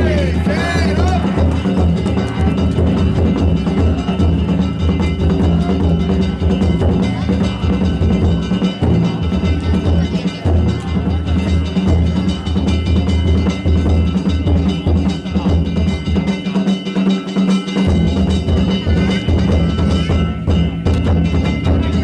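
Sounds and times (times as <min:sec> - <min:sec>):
ringing hand gongs: 0:00.0 - 0:22.0
taiko drum beating: 0:00.0 - 0:22.0.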